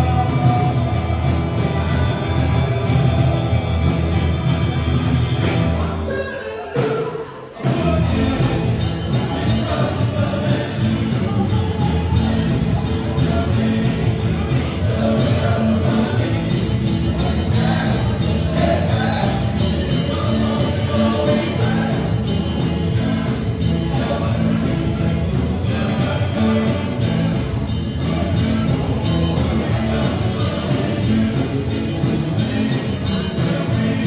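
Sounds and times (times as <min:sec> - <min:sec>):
person singing: 0:00.0 - 0:04.4, 0:05.7 - 0:34.0
steady drum beat: 0:00.0 - 0:05.8, 0:06.8 - 0:34.0
live band playing: 0:00.0 - 0:34.0.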